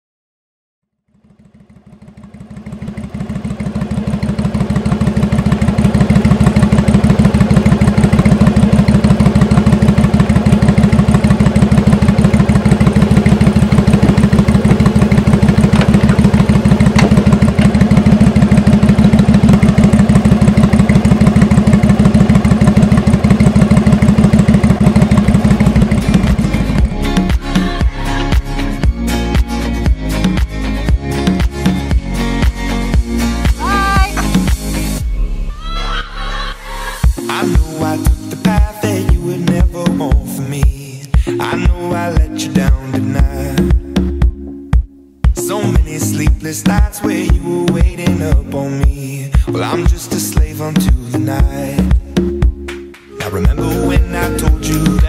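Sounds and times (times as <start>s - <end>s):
motorcycle engine idling: 1.0s - 55.0s.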